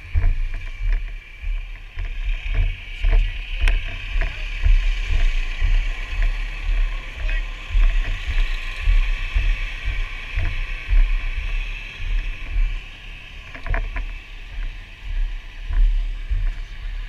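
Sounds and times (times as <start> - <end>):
buffeting and rubbing on microphone: 0.0 - 17.0
fire apparatus running noise: 0.0 - 17.0.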